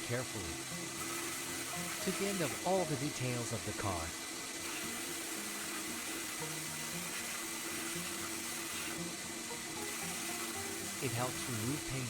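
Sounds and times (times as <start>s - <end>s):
sandblaster hissing: 0.0s - 12.0s.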